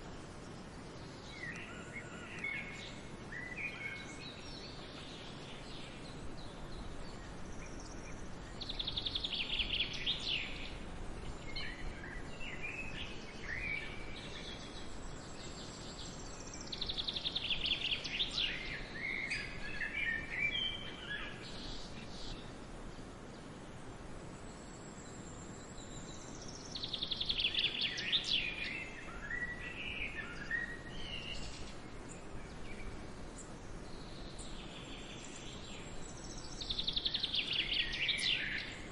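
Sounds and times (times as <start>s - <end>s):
steady outdoor hiss: 0.0s - 38.9s
songbird trilling and chirping: 1.0s - 22.5s, 25.0s - 38.9s.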